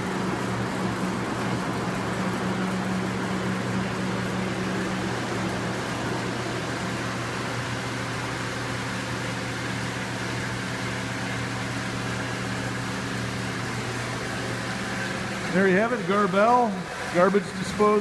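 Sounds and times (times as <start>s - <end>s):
garbage disposal humming: 0.0s - 18.0s.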